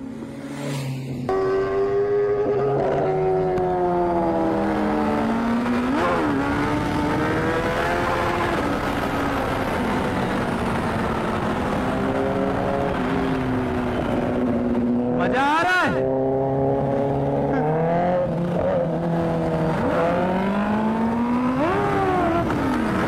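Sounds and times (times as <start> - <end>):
motorcycle engine accelerating: 0.0 - 15.2, 16.0 - 23.0.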